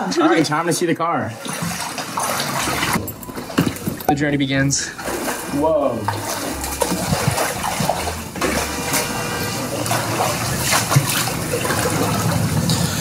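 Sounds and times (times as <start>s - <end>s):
people wading through water: 0.0s - 13.0s.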